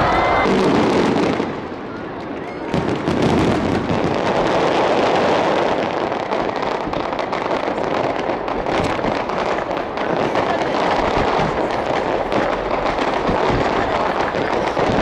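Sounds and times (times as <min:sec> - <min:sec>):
fireworks bursts and crackling: 0:00.0 - 0:15.0.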